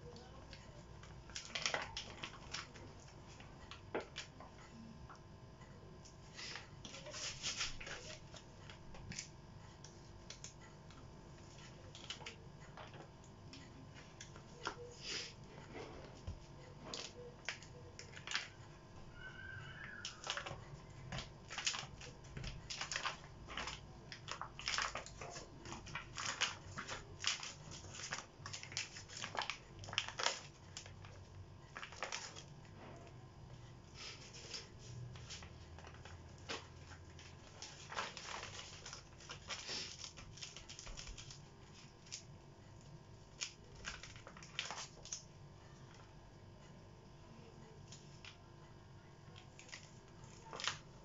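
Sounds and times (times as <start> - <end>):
glossy paper crinkling: 0.1 - 4.8, 6.2 - 33.0, 34.0 - 46.1, 49.4 - 51.0.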